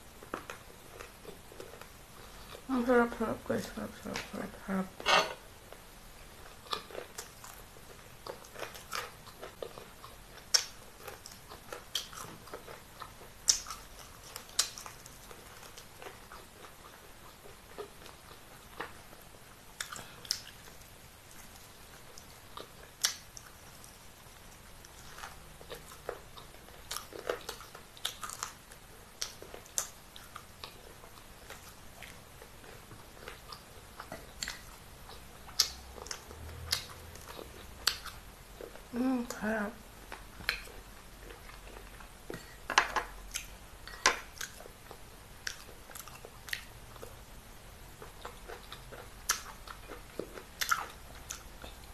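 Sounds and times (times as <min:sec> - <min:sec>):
person chewing food: 0:00.1 - 0:02.7, 0:05.0 - 0:51.9.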